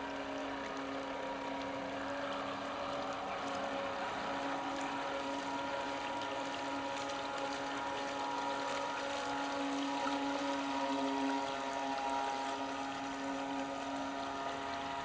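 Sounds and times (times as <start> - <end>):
model boat motor whine: 0.0 - 15.0
water wash: 0.0 - 15.0.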